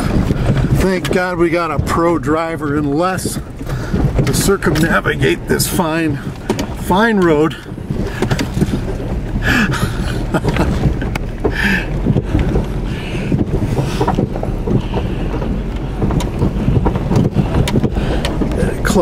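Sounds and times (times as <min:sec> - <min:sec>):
sharp knocks and rattles: 0:00.0 - 0:19.0
vehicle rumble from inside cabin: 0:00.0 - 0:19.0.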